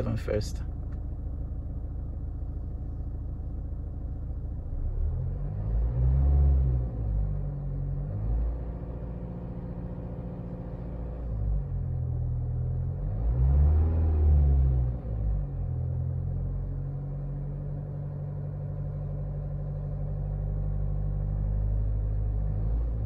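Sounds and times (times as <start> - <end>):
diesel engine idling and revving: 0.0 - 23.0.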